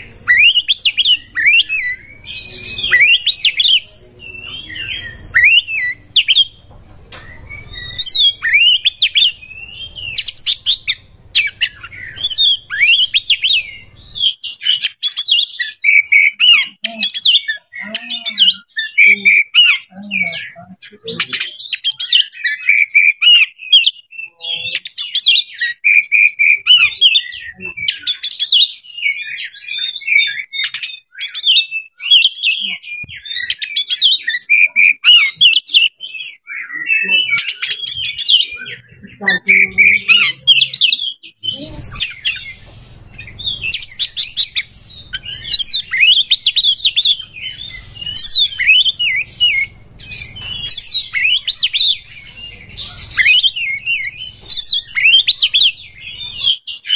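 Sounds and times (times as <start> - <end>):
bird singing: 0.0 - 56.9.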